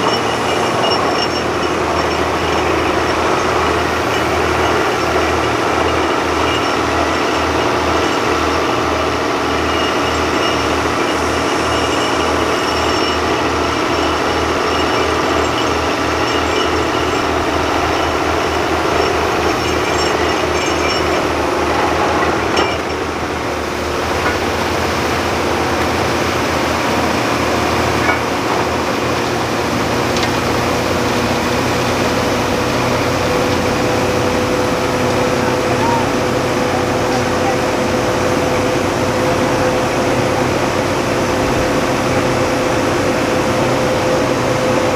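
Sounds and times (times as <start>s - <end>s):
air compressor running: 0.0s - 44.9s
drilling rig running: 0.0s - 44.9s.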